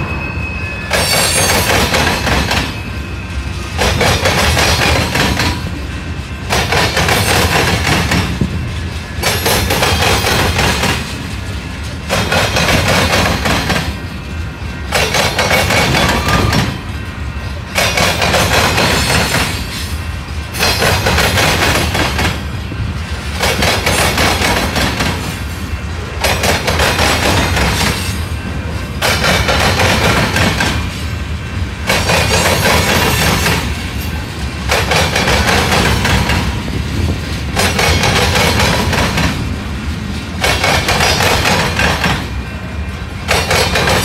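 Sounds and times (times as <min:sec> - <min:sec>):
train wheels clattering on rails: 0:00.8 - 0:44.0.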